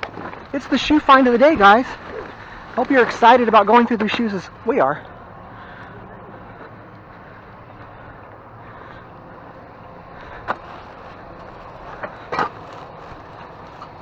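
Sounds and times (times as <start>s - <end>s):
steady background rumble: 0.0s - 14.0s.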